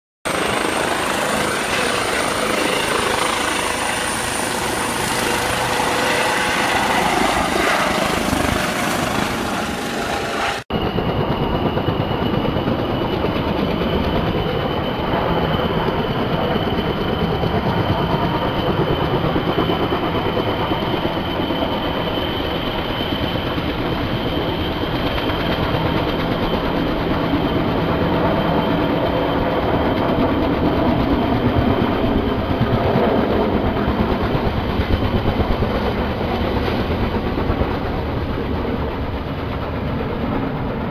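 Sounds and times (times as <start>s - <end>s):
helicopter rotor chopping: 0.3s - 40.9s.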